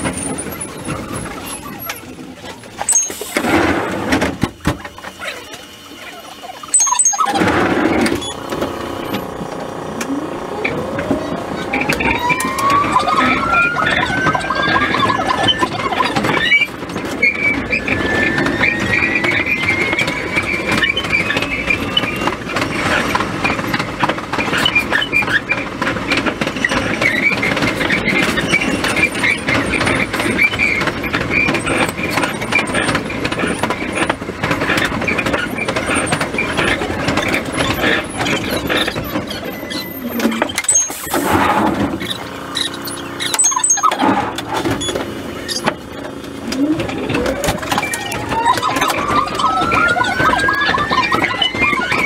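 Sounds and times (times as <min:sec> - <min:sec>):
high wheel squeal: 0:00.0 - 0:03.6, 0:04.8 - 0:09.5, 0:10.6 - 0:52.0
train wheels rumbling on rail: 0:00.0 - 0:05.9, 0:07.0 - 0:52.0.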